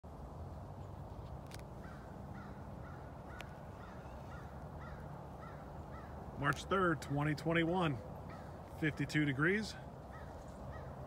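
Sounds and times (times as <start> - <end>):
bird calling: 1.8 - 11.0.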